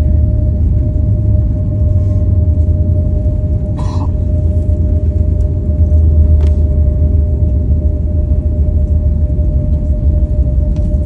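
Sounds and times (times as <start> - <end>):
airliner cabin low rumble: 0.0 - 11.0
steady hum: 0.0 - 11.0.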